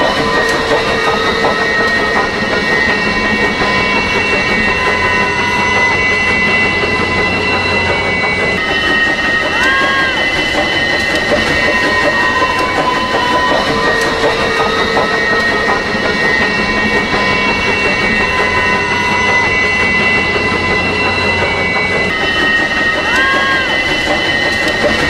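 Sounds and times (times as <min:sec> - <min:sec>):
high squealing tone: 0:00.0 - 0:24.9
steam train rumble and rail rattle: 0:00.0 - 0:25.0.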